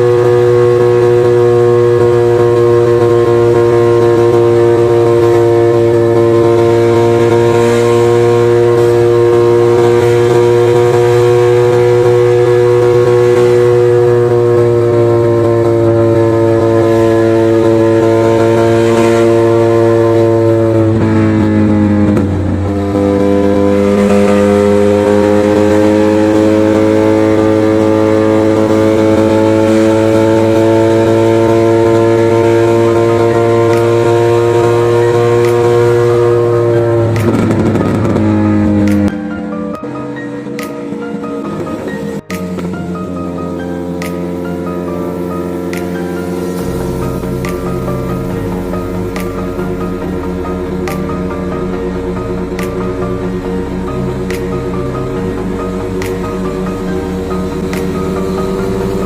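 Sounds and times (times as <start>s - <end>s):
motorcycle engine and exhaust: 0.0s - 59.0s.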